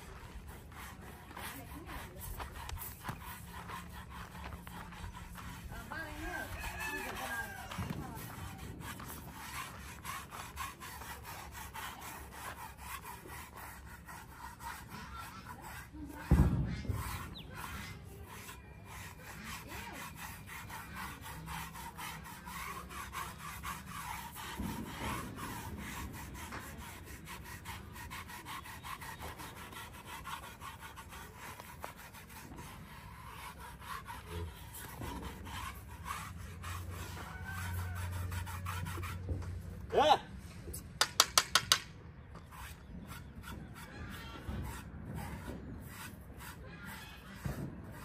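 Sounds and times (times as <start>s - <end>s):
hands rubbing horse coat: 0.0s - 39.8s, 40.6s - 48.0s.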